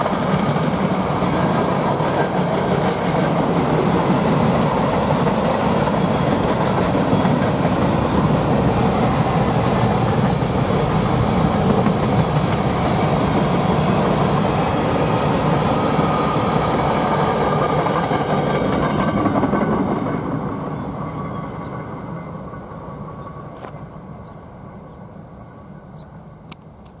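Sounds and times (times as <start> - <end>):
freight train wheels on rails: 0.0 - 26.9.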